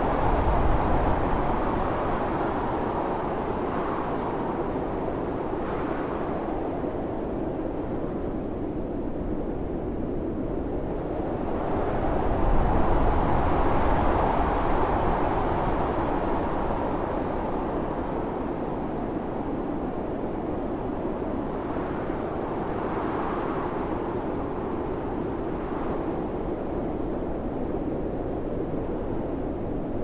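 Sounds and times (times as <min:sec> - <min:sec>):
blizzard wind howling: 0:00.0 - 0:30.0.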